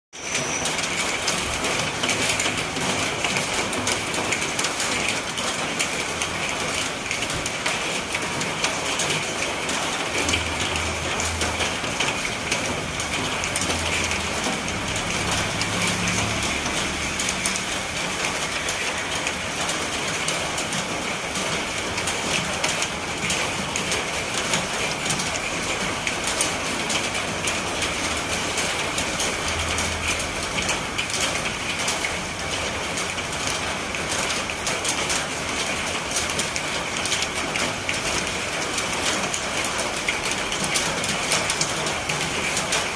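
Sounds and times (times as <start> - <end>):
steady rain falling: 0.2 - 42.9.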